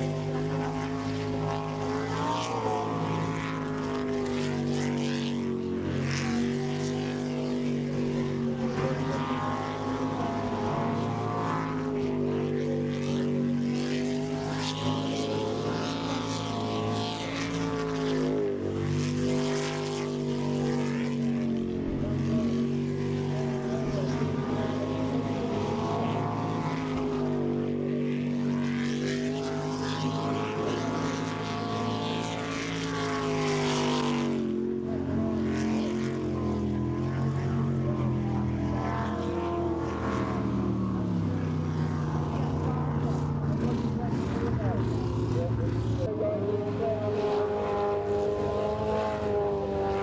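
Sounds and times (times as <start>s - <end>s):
boat engine revving: 0.0s - 50.0s.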